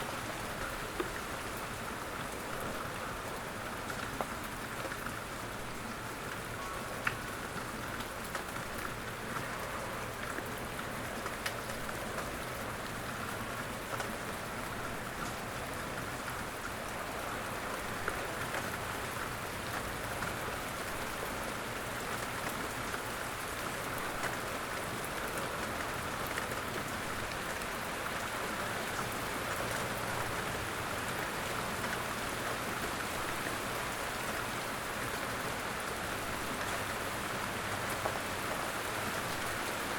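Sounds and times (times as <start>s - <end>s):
steady rain falling: 0.0s - 39.9s
raindrops tapping on surfaces: 0.1s - 39.9s.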